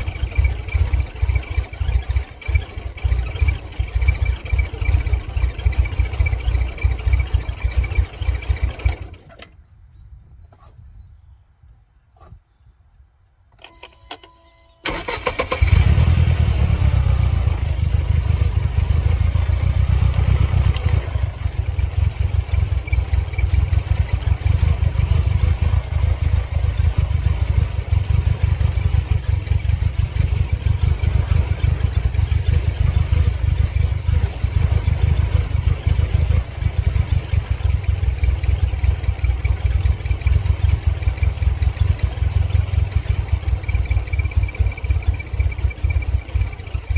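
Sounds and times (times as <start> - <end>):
car engine idling: 0.0 - 9.2, 14.8 - 46.9
starter cranking engine: 0.0 - 9.6, 13.6 - 46.9.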